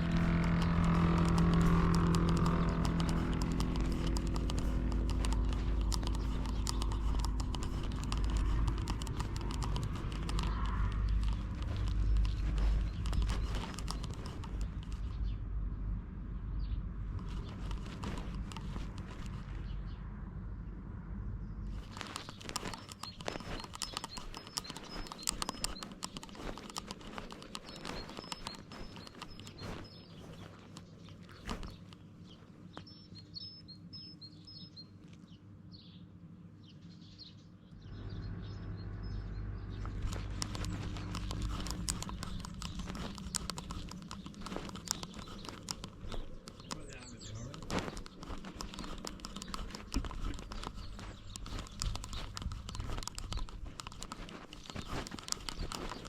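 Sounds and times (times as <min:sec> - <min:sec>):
crackling and scratching: 0:00.0 - 0:15.4, 0:17.0 - 0:20.0, 0:21.6 - 0:33.1, 0:38.8 - 0:56.0
rapid irregular clicks and scuffs: 0:00.0 - 0:15.4, 0:17.0 - 0:20.0, 0:21.6 - 0:35.4, 0:39.0 - 0:56.0.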